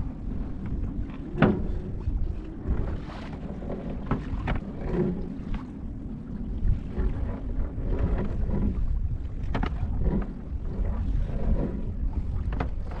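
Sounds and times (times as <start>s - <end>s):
sea and boat hull noise: 0.0s - 13.0s
wind rumbling on microphone: 0.0s - 13.0s.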